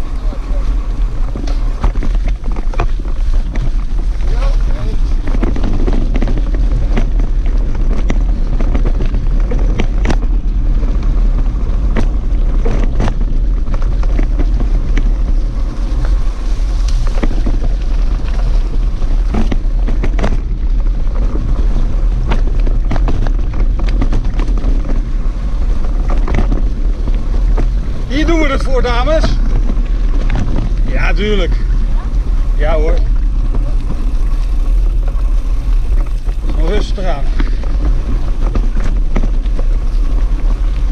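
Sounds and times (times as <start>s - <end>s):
bike rattling clicks and knocks: 0.0s - 40.9s
wind buffeting microphone: 0.0s - 40.9s.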